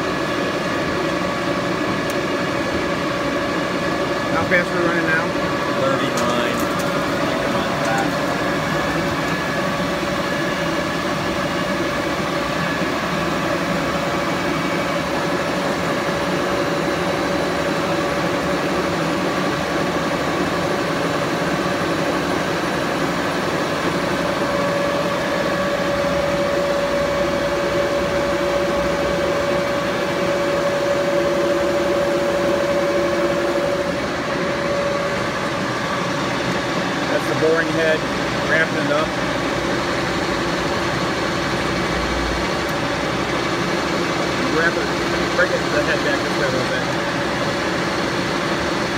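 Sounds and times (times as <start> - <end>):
lathe mechanical hum: 0.0 - 48.9
machine whine: 0.0 - 48.9.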